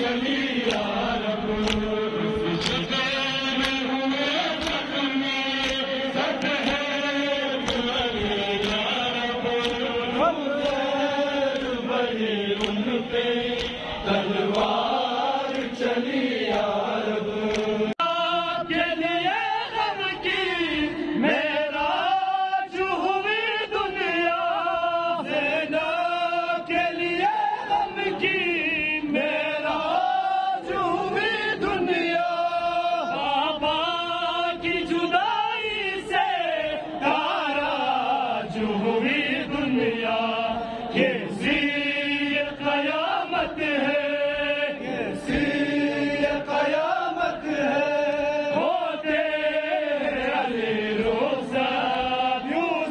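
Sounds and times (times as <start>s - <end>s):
crowd of men chanting: 0.0s - 52.9s
lead reciter on microphone: 0.0s - 52.9s.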